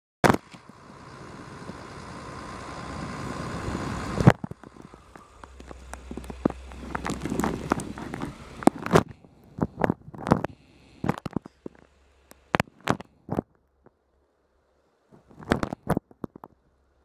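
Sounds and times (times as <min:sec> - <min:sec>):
diesel railcar engine running: 0:00.3 - 0:15.5.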